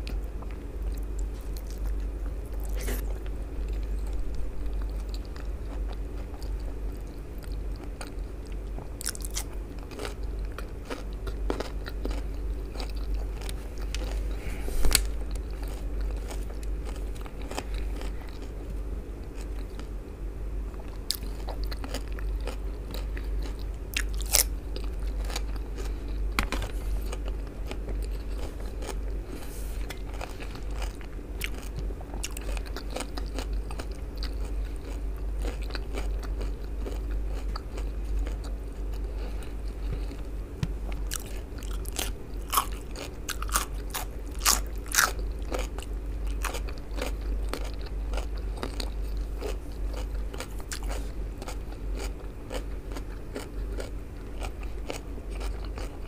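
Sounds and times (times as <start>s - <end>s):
chewing and crunching cucumber: 0.0s - 20.0s, 20.7s - 56.0s
steady low hum: 0.0s - 56.0s.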